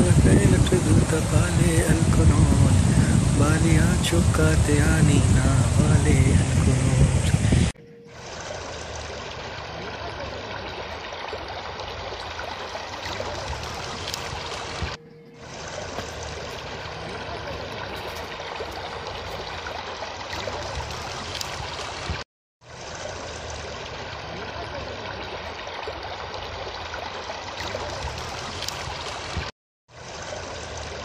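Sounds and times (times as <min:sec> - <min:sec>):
stream water rushing over rocks: 0:00.0 - 0:31.0.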